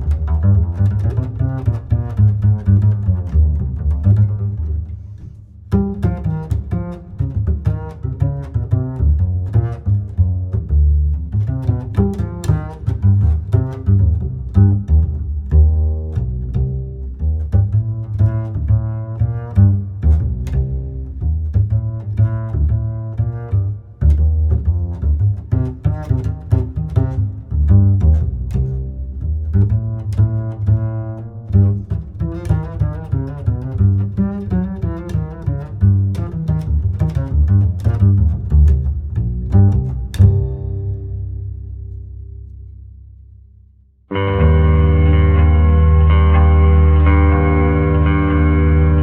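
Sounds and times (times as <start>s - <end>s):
instrumental music with deep bass: 0.0s - 49.0s.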